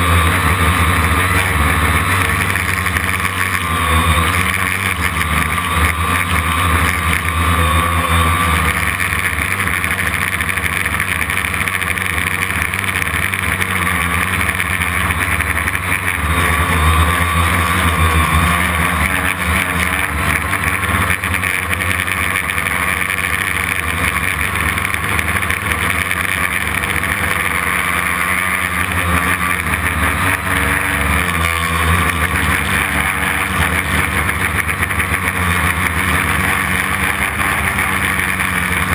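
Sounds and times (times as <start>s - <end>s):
quadcopter motors and propellers: 0.0s - 38.9s.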